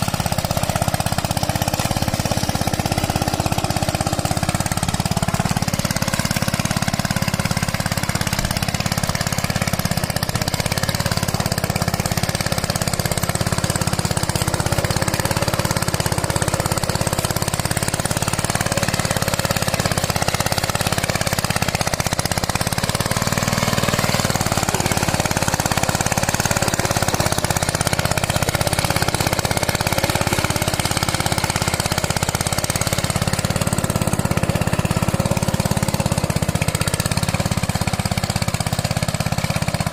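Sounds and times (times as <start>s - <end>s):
hand tractor engine knocking: 0.0s - 39.9s.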